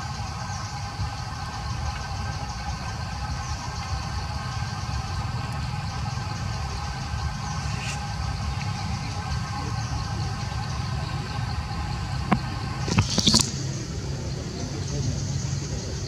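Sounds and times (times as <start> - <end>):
high-pitched hum: 0.0 - 16.0
low rumble: 0.0 - 16.0.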